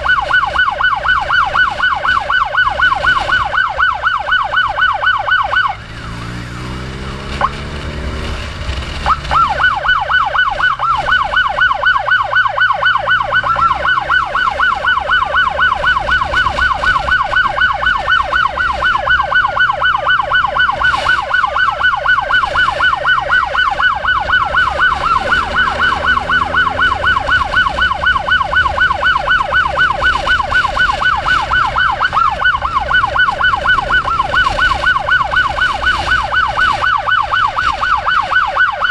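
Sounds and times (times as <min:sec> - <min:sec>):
electronic siren fast yelp: 0:00.0 - 0:06.3, 0:09.0 - 0:38.9
faint wailing siren: 0:00.0 - 0:38.9
motorcycle engine revving: 0:05.2 - 0:11.4, 0:13.0 - 0:38.1.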